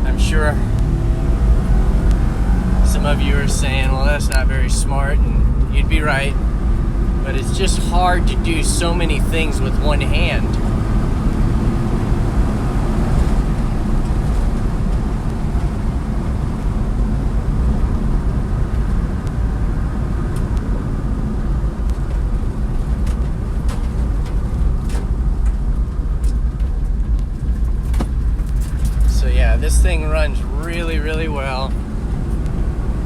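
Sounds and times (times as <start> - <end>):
truck engine rumble from cab: 0.0 - 33.0.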